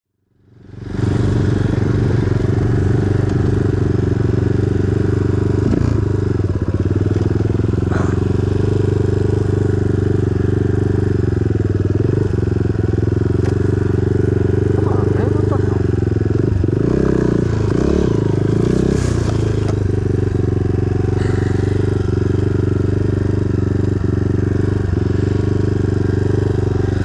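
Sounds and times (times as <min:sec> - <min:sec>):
pit bike engine idling: 0:00.4 - 0:27.0.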